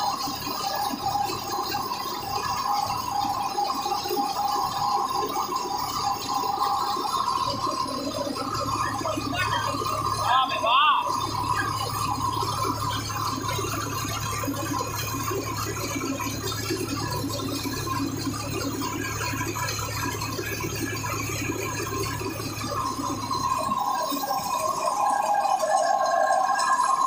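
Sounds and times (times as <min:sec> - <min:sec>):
high steady machine whine: 0:00.0 - 0:27.0
rice mill low hum: 0:00.0 - 0:27.0.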